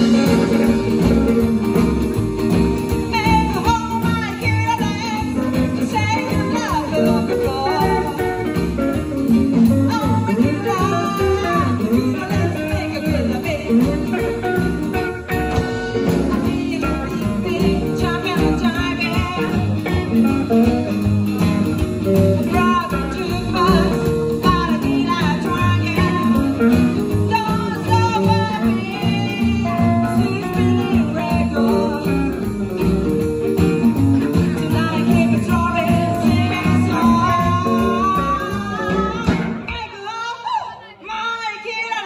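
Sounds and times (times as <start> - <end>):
woman singing: 0.0 - 32.9, 33.5 - 42.0
live band playing: 0.0 - 42.0.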